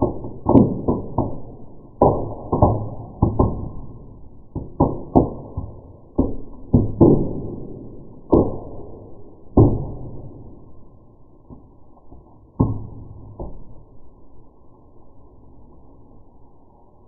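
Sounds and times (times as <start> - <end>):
bark fire popping and crackling: 0.0 - 16.4.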